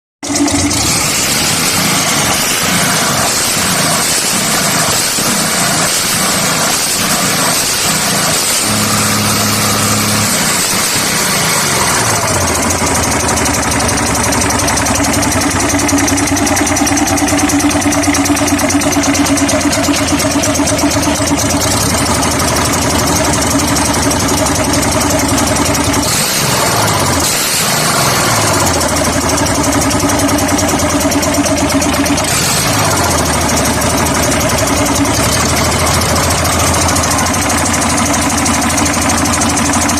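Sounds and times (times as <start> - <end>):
engine running: 0.2 - 39.9.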